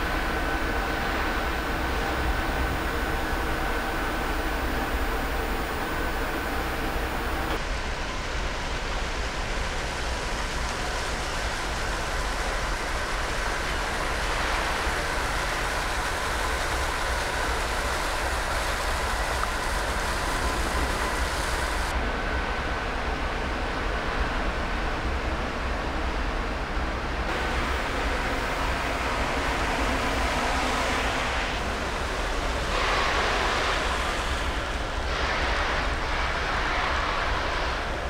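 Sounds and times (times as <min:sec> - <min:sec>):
constant machinery hiss: 0:00.0 - 0:38.0
faint steady whines: 0:00.0 - 0:38.0.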